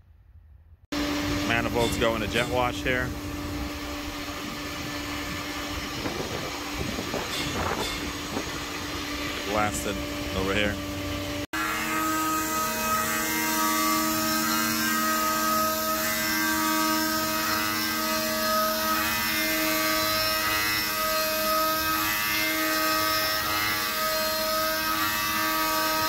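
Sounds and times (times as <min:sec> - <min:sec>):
machining whine: 0:00.9 - 0:26.0.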